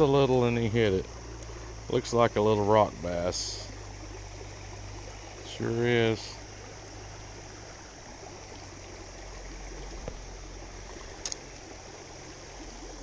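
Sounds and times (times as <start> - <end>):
water running over small waterfall: 0.0 - 13.0.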